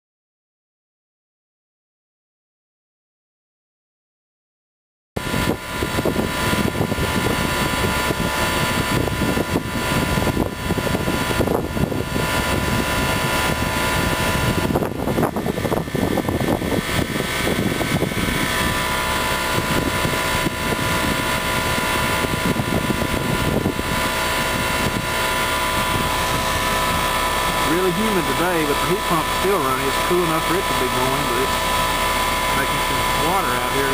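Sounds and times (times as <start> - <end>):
heat pump humming: 5.2 - 33.9.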